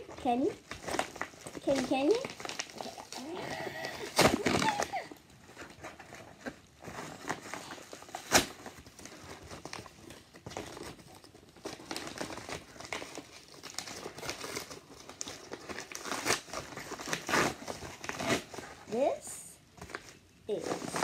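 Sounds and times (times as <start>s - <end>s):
padded mailer crinkling and tearing: 0.0s - 18.9s, 19.8s - 21.0s.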